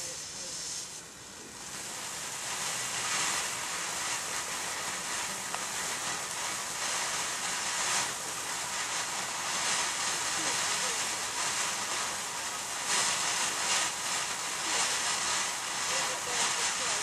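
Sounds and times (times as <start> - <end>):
firework fountain hissing: 0.0 - 17.0.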